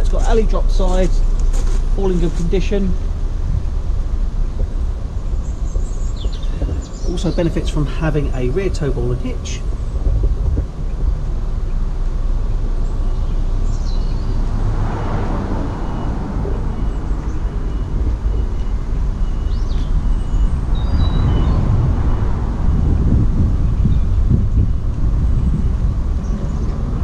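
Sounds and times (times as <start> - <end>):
low rumble of road traffic: 0.0 - 27.0
vehicles passing: 0.0 - 27.0.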